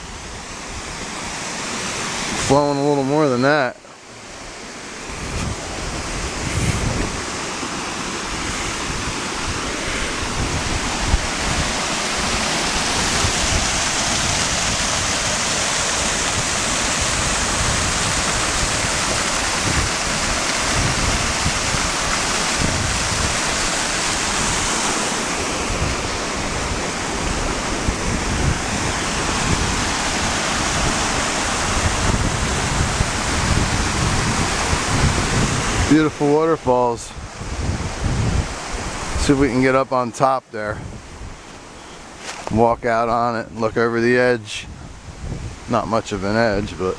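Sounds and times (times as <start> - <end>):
small waterfall rushing: 0.0 - 39.6
wind rumble on microphone: 4.4 - 39.6, 40.6 - 43.9, 44.5 - 46.9.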